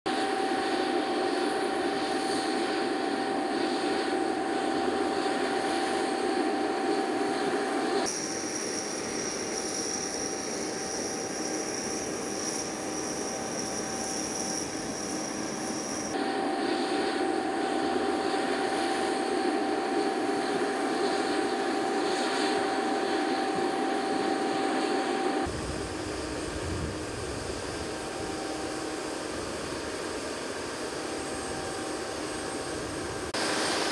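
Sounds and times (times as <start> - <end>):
airfield machinery whine and hum: 0.1 - 33.9.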